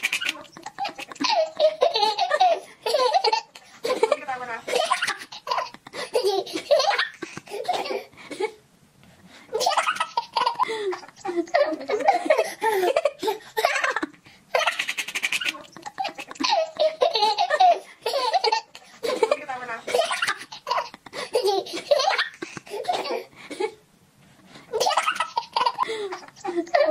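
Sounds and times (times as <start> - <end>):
baby laughing: 0.0 - 8.1, 9.6 - 23.3, 24.7 - 26.9.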